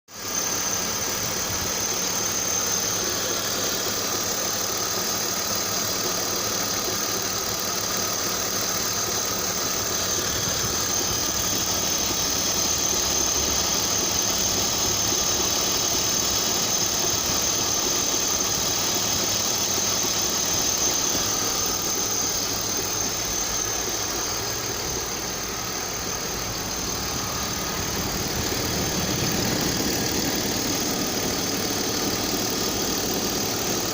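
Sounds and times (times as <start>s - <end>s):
engine running with rhythmic knocking: 0.2s - 33.9s.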